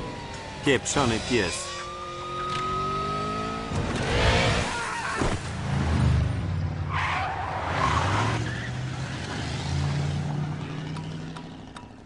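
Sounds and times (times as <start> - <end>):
tyres skidding and squealing: 0.6 - 12.0.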